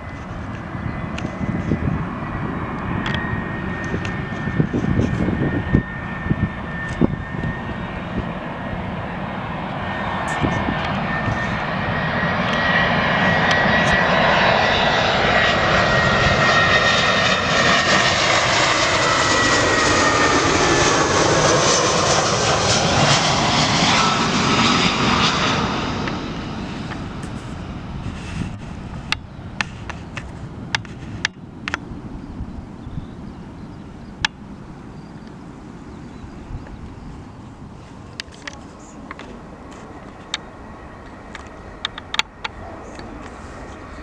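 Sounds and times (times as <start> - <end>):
jet airliner passing: 0.0 - 44.0
thin engine whine: 0.0 - 44.0.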